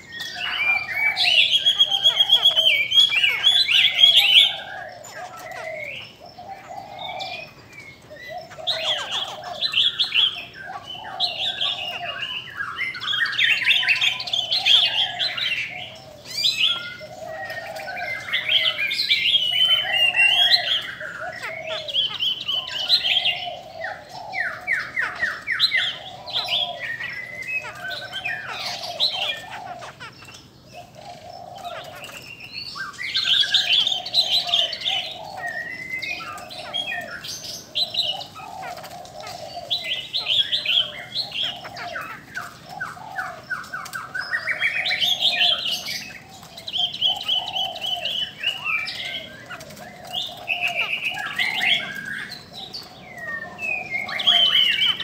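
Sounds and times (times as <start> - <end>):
birds singing whistled phrases: 0.0 - 55.0.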